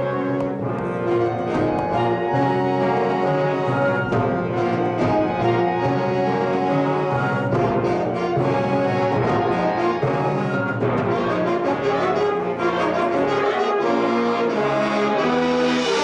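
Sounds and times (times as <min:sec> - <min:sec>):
trombones and trumpets: 0:00.0 - 0:16.0
wind band playing chords: 0:00.0 - 0:16.0.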